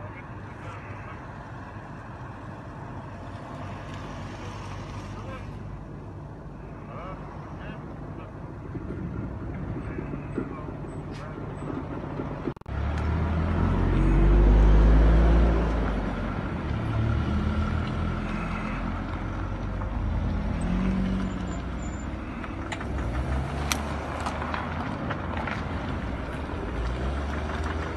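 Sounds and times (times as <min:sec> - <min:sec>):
heavy vehicle engine rumbling: 0:00.0 - 0:27.9
road noise: 0:00.0 - 0:27.9.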